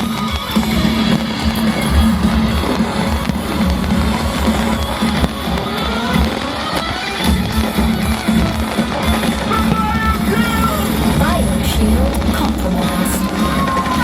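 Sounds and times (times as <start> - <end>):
soundtrack music with drums and guitar: 0.0 - 14.0.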